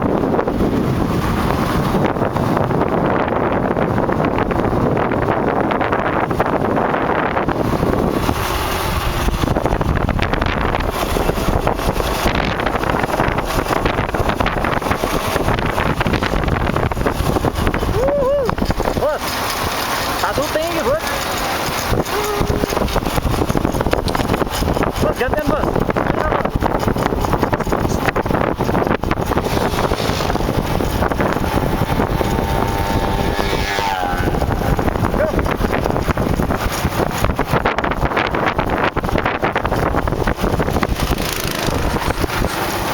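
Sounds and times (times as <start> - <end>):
dirt bike chain and suspension rattles: 0.0 - 42.9
wind buffeting microphone: 0.0 - 42.9.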